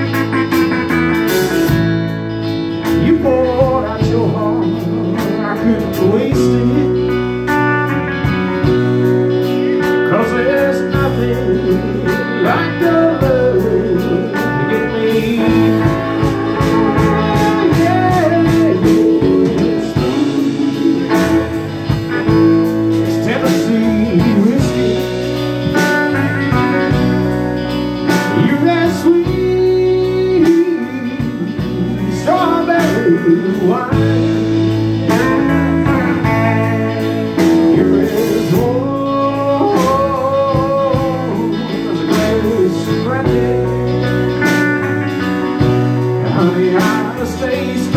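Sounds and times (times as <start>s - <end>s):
electric guitar lead bending: 0.0s - 47.9s
live blues band playing: 0.0s - 47.9s.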